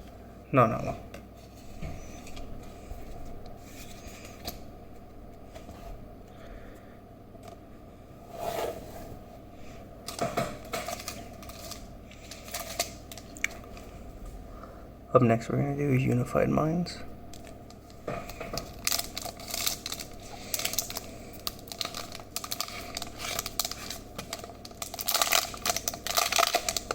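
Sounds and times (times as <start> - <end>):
low steady hum: 0.0 - 26.9.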